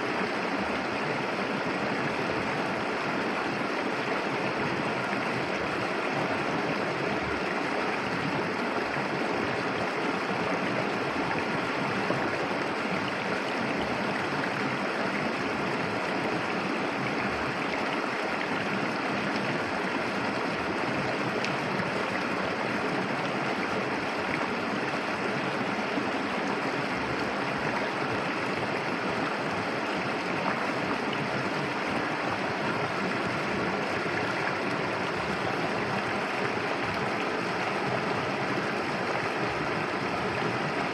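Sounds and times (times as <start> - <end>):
river rushing and gurgling: 0.0 - 40.9.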